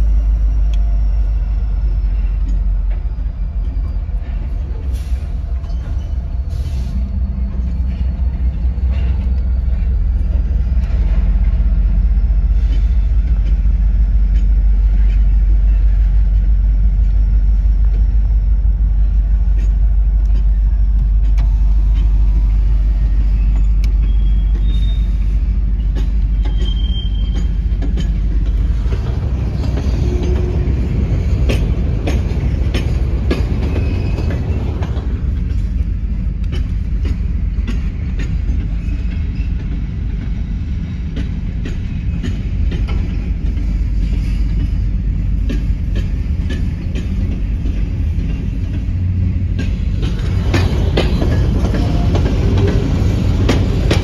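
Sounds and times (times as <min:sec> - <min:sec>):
freight train rumbling past: 0:00.0 - 0:54.0
wheels clicking over rail joints: 0:07.3 - 0:54.0.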